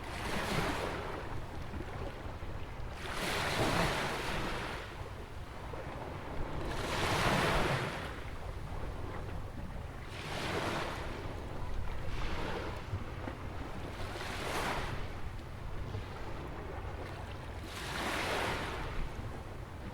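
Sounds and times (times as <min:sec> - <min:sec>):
wind rumble on microphone: 0:00.0 - 0:19.9.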